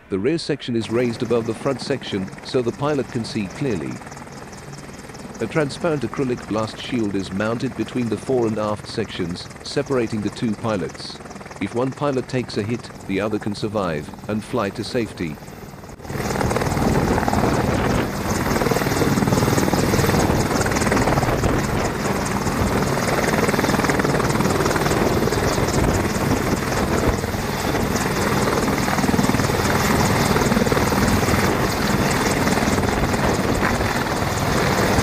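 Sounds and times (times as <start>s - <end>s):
helicopter engines and rotor running: 0.0s - 35.0s.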